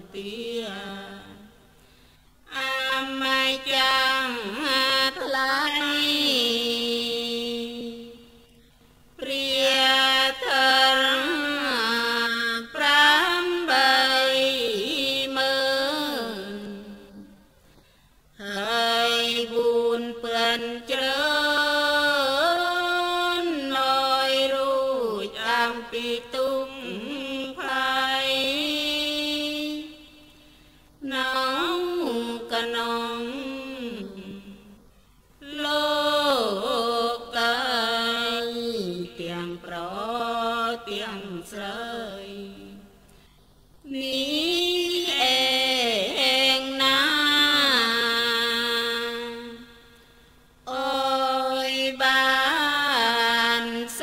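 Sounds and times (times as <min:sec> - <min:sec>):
person chanting melodically: 0:00.0 - 0:01.7, 0:02.4 - 0:08.4, 0:09.2 - 0:17.4, 0:18.4 - 0:30.3, 0:31.0 - 0:34.8, 0:35.4 - 0:43.0, 0:43.8 - 0:50.0, 0:50.6 - 0:54.0.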